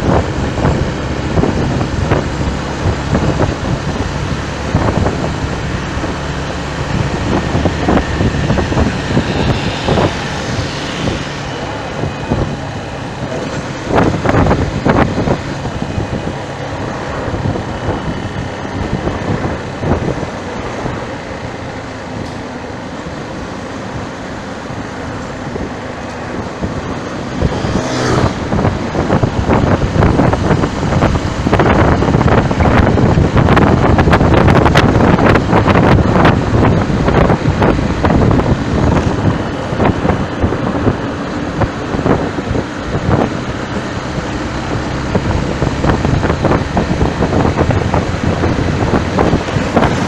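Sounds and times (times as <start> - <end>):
road traffic rumble: 0.0 - 50.0
wind buffeting microphone: 0.0 - 50.0.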